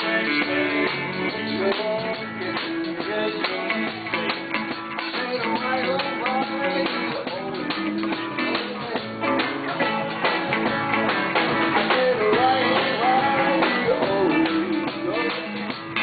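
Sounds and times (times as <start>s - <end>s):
bending lead guitar line: 0.0s - 16.0s
live rock and roll band: 0.0s - 16.0s.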